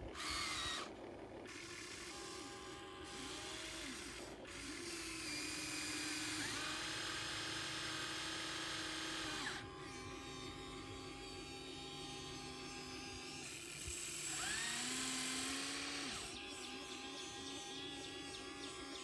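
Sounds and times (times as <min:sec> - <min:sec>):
electric motor and pump whining: 0:00.0 - 0:19.0.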